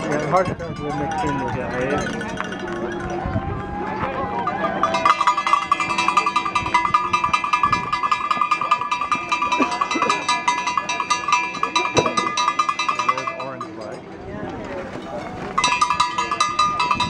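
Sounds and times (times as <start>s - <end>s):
cowbell rung rapidly: 0.0s - 3.4s, 4.2s - 14.0s, 15.6s - 17.0s.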